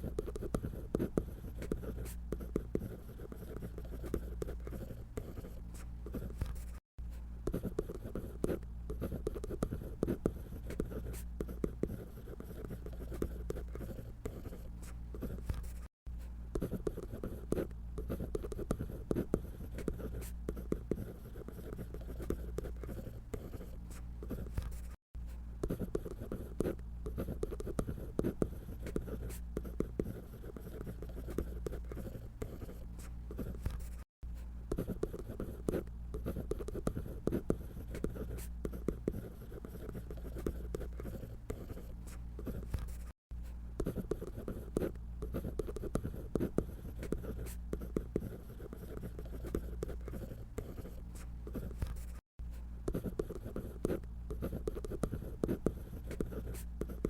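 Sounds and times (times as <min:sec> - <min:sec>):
pen scratching on paper: 0:00.0 - 0:06.8, 0:07.4 - 0:15.9, 0:16.5 - 0:25.0, 0:25.6 - 0:43.2, 0:43.8 - 0:52.2, 0:52.9 - 0:57.0.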